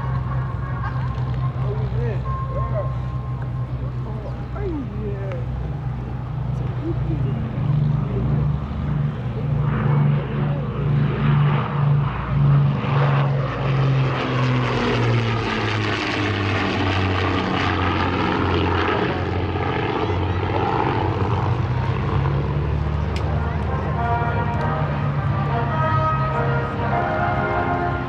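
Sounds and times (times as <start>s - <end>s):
aircraft engines passing: 0.0s - 28.0s.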